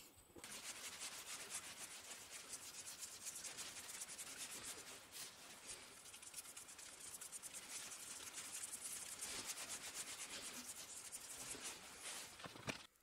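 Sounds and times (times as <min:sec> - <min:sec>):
paintbrush swishing: 0:00.4 - 0:12.5.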